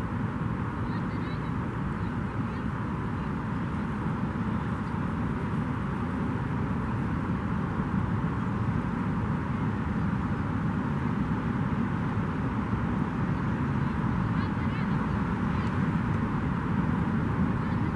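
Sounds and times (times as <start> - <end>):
low outdoor background rumble: 0.0 - 17.9.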